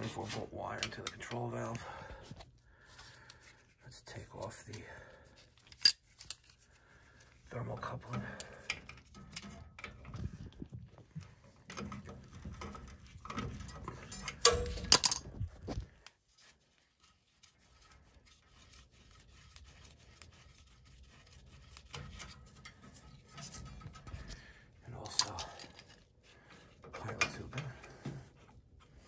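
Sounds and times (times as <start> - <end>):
tool handling scraping and clicks: 0.0 - 16.2, 21.3 - 29.0.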